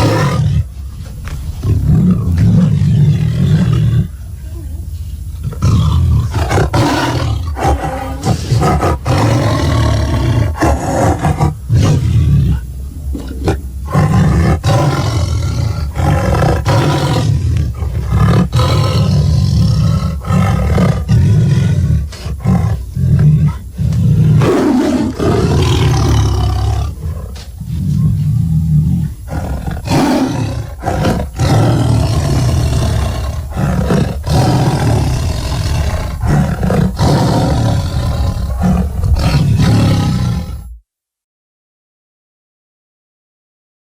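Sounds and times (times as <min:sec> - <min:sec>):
deep creature roars and growls: 0:00.0 - 0:00.7, 0:05.4 - 0:40.8.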